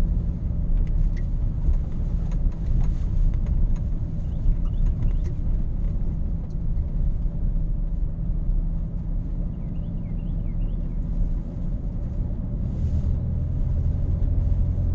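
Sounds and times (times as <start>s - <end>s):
road noise: 0.0s - 14.9s
truck engine rumble: 0.0s - 14.9s.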